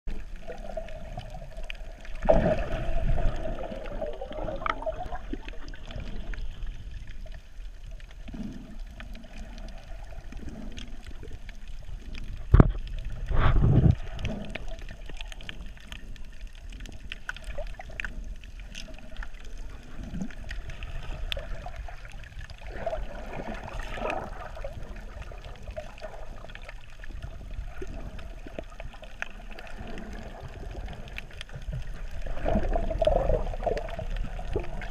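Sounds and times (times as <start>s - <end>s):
rushes of water and bubbles: 0.0s - 34.9s
underwater wash and gurgle: 0.0s - 34.9s.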